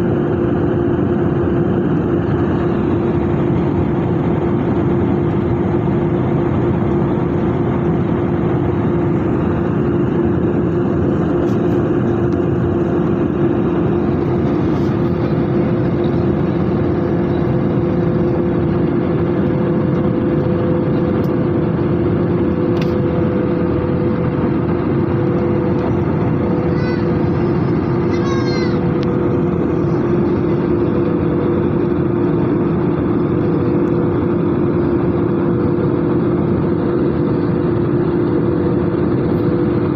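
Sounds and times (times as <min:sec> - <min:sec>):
airplane cabin engine rush: 0:00.0 - 0:39.9
constant low hum: 0:00.0 - 0:39.9.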